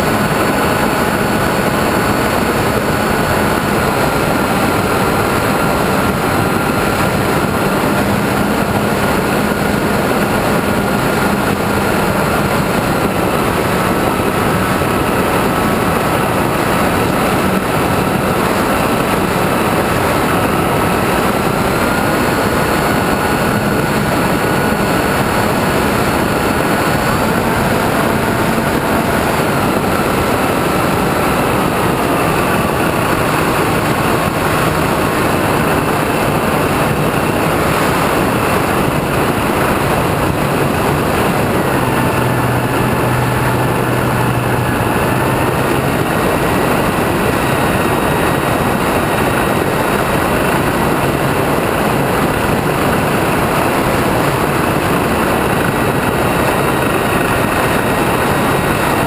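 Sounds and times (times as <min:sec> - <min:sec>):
model airplane motor whine: 0:00.0 - 0:59.0
rush of air: 0:00.0 - 0:59.0.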